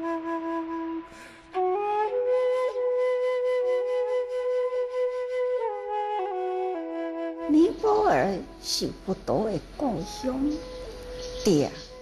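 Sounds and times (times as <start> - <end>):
flute melody: 0.0 - 12.0.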